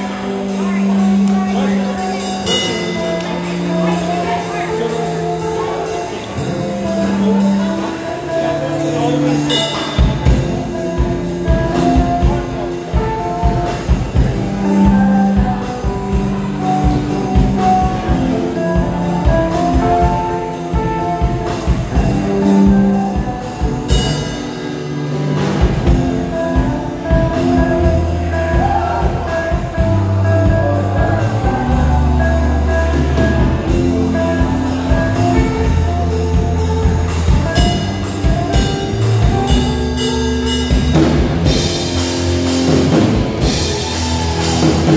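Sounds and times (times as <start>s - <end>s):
bass guitar: 0.0s - 44.9s
drums and cymbals: 0.0s - 44.9s
electric guitar: 0.0s - 44.9s.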